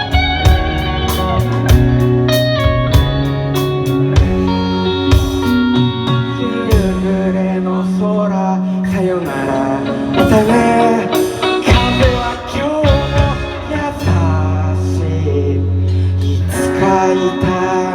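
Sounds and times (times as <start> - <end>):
rock band playing: 0.0 - 17.9.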